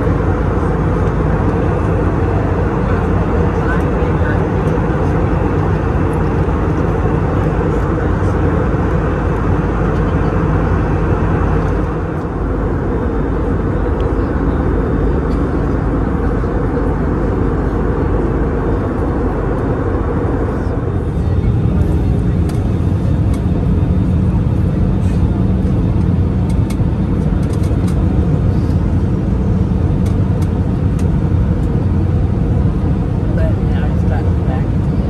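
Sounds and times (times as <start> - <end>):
jet engine drone in cabin: 0.0 - 35.0.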